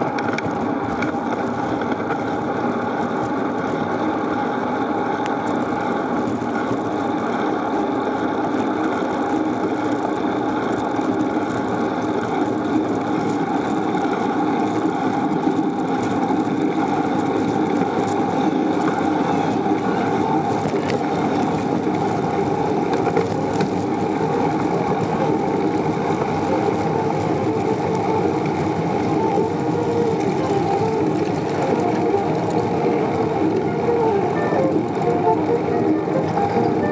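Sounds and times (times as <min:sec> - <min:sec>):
bicycle tyres on pavement: 0:00.0 - 0:36.9
wind on microphone: 0:00.0 - 0:36.9.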